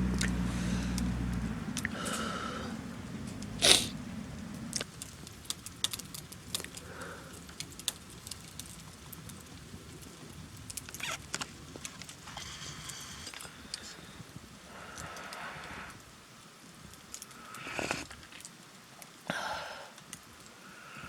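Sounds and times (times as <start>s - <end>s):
campfire crackling and popping: 0.0s - 20.8s.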